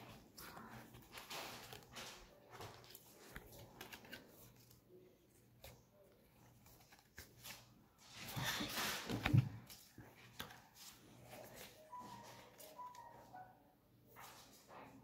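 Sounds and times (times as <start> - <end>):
cards rustling and clicking: 0.0 - 13.2.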